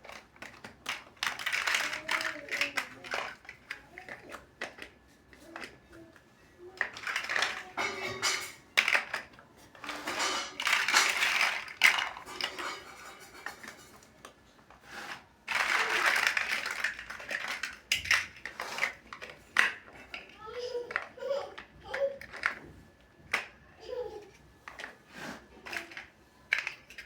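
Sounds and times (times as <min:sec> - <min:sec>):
plastic building bricks clattering: 0:00.0 - 0:27.0.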